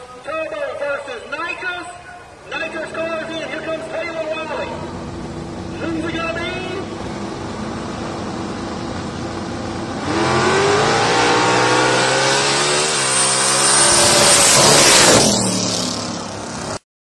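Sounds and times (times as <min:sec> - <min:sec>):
drag car engine accelerating: 0:02.5 - 0:16.8.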